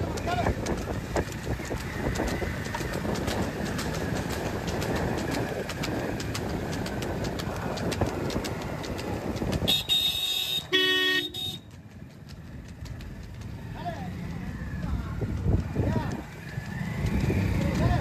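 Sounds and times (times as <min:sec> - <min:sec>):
rapid clattering clicks: 0:00.0 - 0:09.8, 0:11.6 - 0:18.0
vehicles rolling and rattling: 0:00.0 - 0:18.0.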